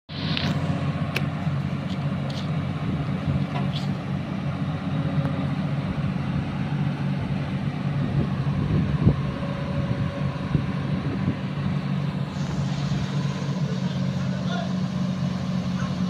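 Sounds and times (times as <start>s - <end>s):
diesel engine running: 0.1s - 16.0s
low hum: 0.1s - 16.0s.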